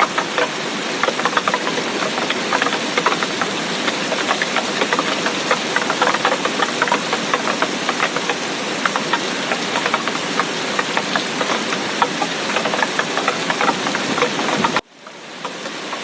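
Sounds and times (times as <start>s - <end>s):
heavy rain hissing: 0.0s - 16.0s
drops striking a surface: 0.1s - 14.8s.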